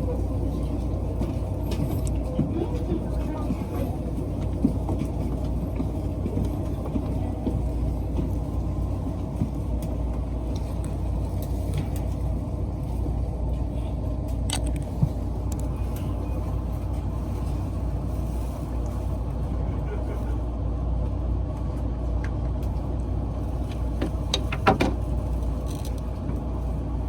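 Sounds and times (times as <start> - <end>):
train interior hum and rumble: 0.0 - 27.0.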